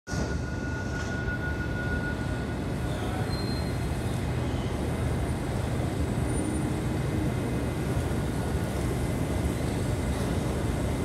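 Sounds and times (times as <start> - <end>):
electric trains humming: 0.1 - 11.0
station hall background noise: 0.1 - 11.0.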